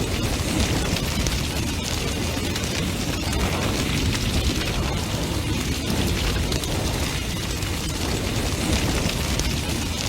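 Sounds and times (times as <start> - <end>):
bonfire flames rumbling: 0.0 - 10.0
burning wood crackling and popping: 0.0 - 10.0.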